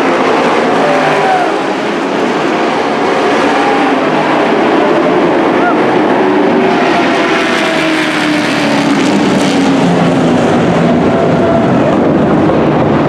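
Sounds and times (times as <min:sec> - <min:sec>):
race truck engines passing: 0:00.0 - 0:13.0.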